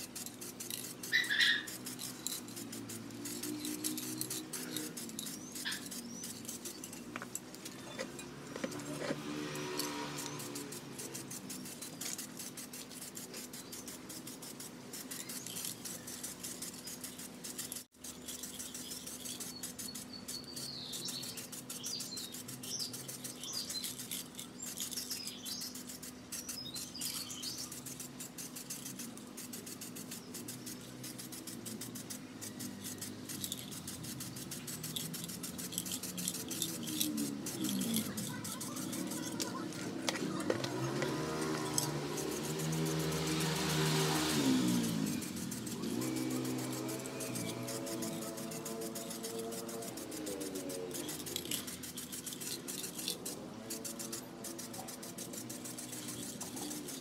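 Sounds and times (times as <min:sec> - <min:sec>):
aerosol spray can hissing: 0:00.0 - 0:07.8, 0:08.4 - 0:57.0
birds chirping: 0:00.0 - 0:57.0.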